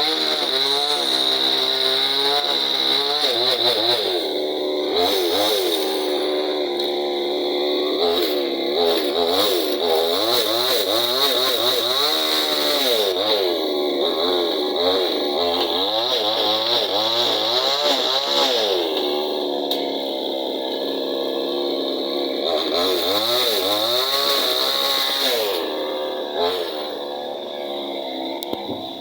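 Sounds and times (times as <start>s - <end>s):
chainsaw engine revving: 0.0s - 29.0s.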